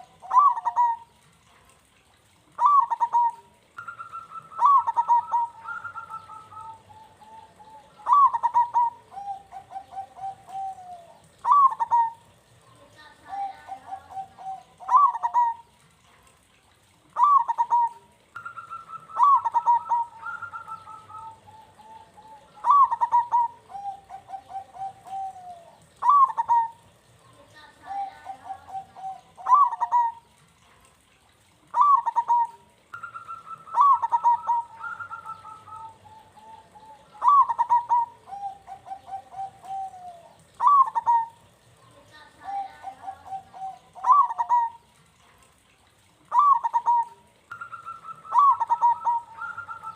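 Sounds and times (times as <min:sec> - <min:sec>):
dove cooing: 0:00.0 - 0:01.2, 0:02.5 - 0:15.8, 0:17.1 - 0:30.4, 0:31.7 - 0:45.0, 0:46.2 - 0:49.9.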